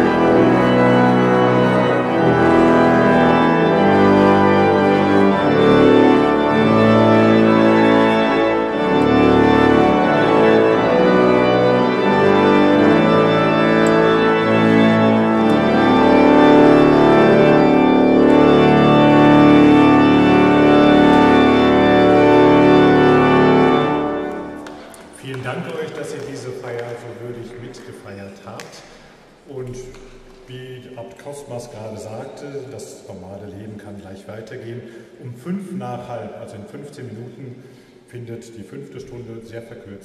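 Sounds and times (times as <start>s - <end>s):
pipe organ chords: 0.0s - 40.0s.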